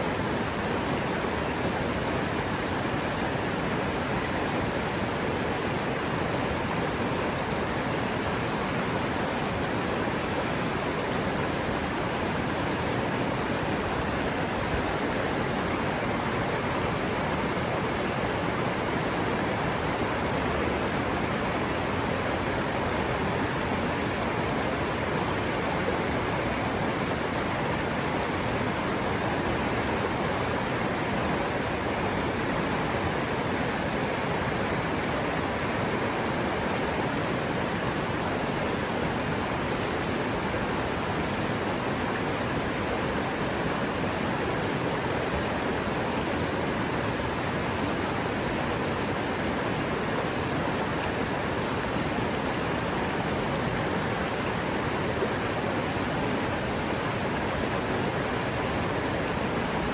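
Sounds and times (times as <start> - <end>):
river water over rocks: 0.0 - 59.9.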